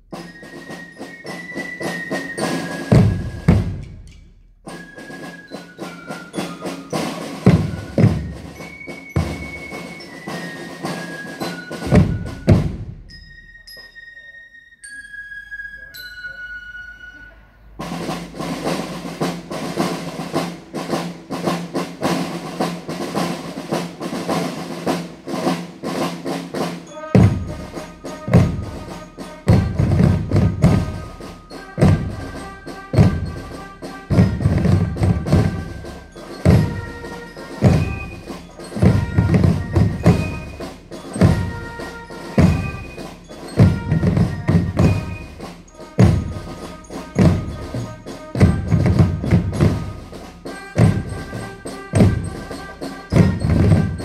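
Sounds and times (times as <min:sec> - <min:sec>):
marching band playing: 0:00.0 - 0:13.6, 0:16.6 - 0:54.0
snare drums: 0:00.0 - 0:14.0, 0:17.8 - 0:54.0
flutes playing march tune: 0:00.0 - 0:54.0.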